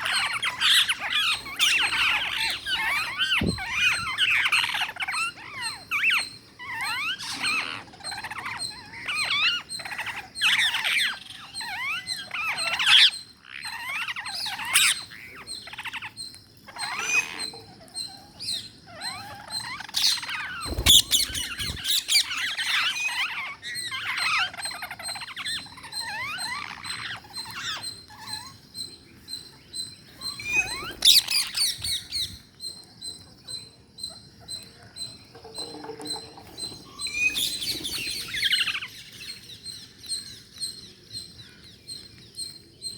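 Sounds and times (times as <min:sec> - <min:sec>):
parakeets calling and chattering: 0:00.0 - 0:42.9.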